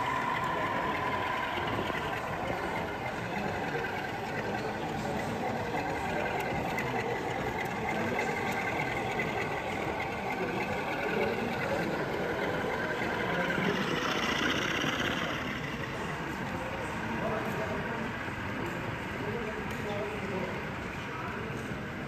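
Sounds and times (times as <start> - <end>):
model train running: 0.0 - 22.0.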